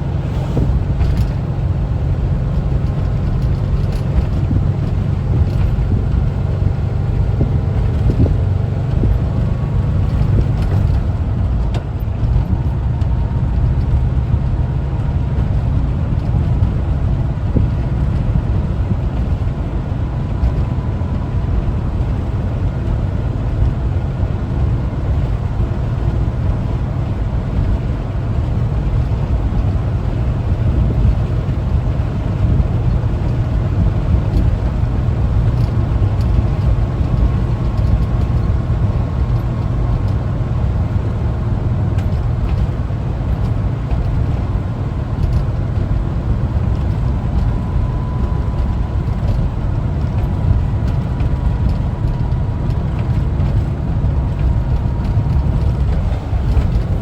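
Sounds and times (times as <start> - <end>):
engine running while driving: 0.0 - 57.0
road noise: 0.0 - 57.0.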